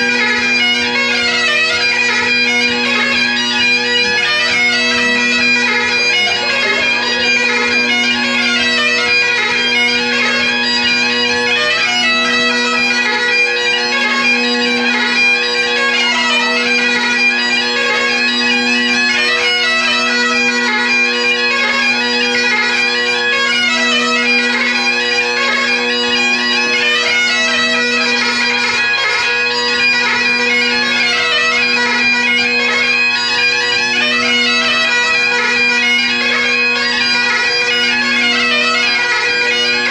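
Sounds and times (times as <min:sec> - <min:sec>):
bagpipe chanter melody: 0:00.0 - 0:39.9
bagpipe drones: 0:00.0 - 0:39.9.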